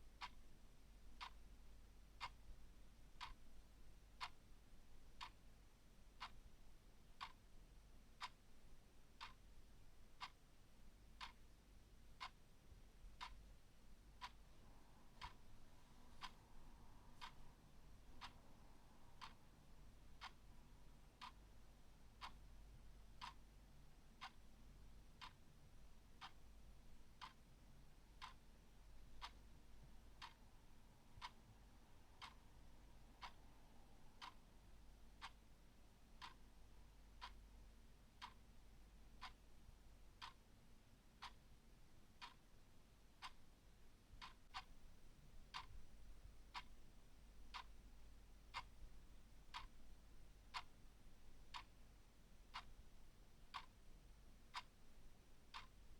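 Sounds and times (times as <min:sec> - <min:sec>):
clock ticking: 0:00.1 - 0:41.6, 0:42.2 - 0:55.9.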